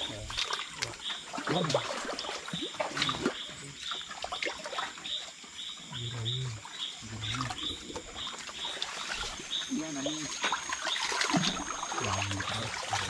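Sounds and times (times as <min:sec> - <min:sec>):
low animal calls: 0:00.0 - 0:13.0.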